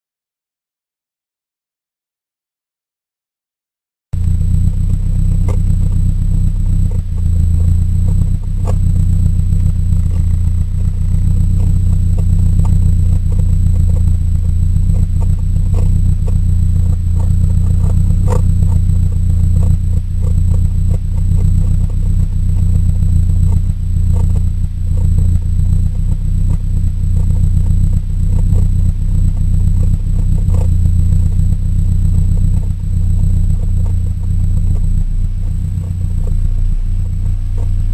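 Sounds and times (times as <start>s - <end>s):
car exhaust rumbling: 4.2s - 37.9s
exhaust clicks and ticks: 4.2s - 37.9s.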